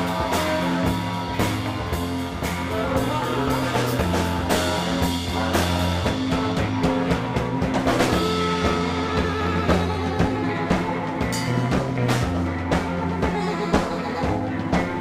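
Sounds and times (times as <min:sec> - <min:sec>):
drum kit with cymbals: 0:00.0 - 0:15.0
electric guitars: 0:00.0 - 0:15.0.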